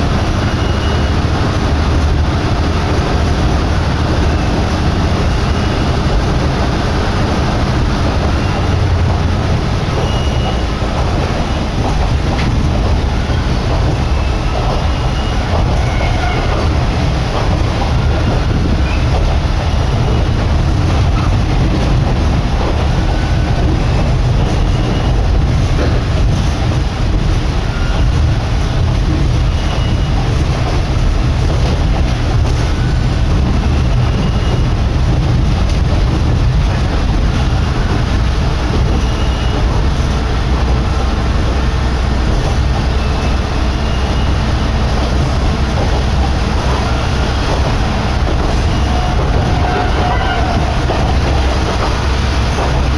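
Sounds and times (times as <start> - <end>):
railcar engine and wheels rumbling: 0.0 - 52.9.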